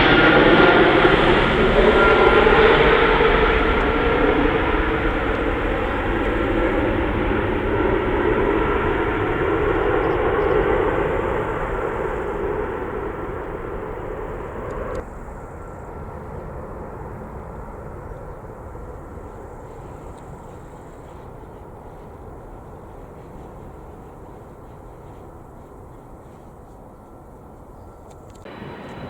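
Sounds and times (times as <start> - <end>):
aircraft engines running loud: 0.0 - 29.0.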